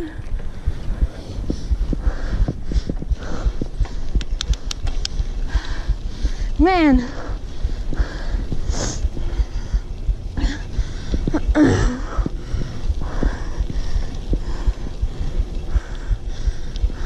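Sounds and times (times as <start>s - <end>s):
bicycle ride rumble and knocks: 0.0s - 17.0s
person breathing hard: 0.0s - 17.0s.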